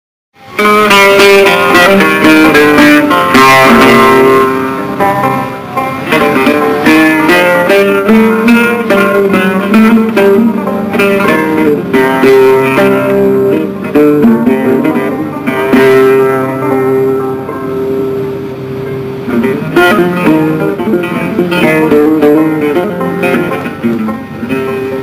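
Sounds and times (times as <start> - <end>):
plucked-string melody: 0.4 - 25.0.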